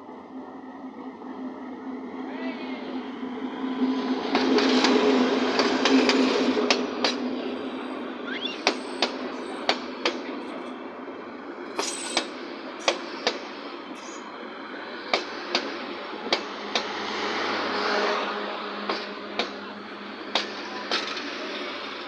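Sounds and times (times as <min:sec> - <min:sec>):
train rumble: 0:00.0 - 0:22.0
train wheels clacking on rails: 0:04.2 - 0:22.0.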